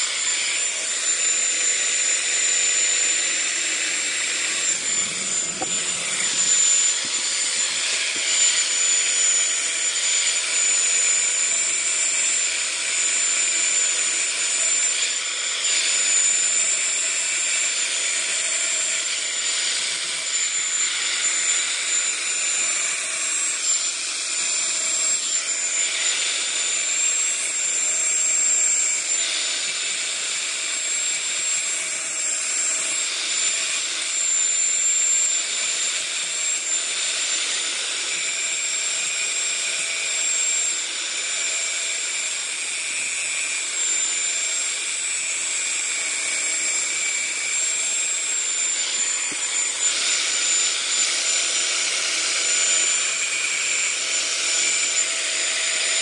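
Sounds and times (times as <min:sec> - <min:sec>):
power grinder grinding metal: 0:00.0 - 0:56.0.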